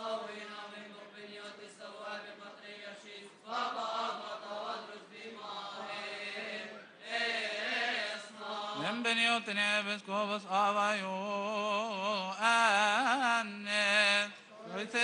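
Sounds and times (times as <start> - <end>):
voices singing a slow chant: 0.0 - 15.0.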